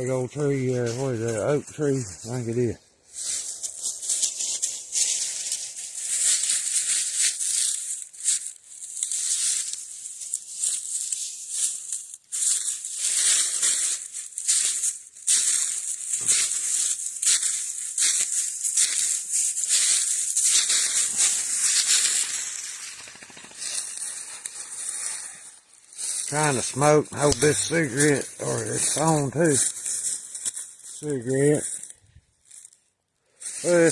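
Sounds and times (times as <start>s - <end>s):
footsteps on dry leaves: 0.0s - 33.9s.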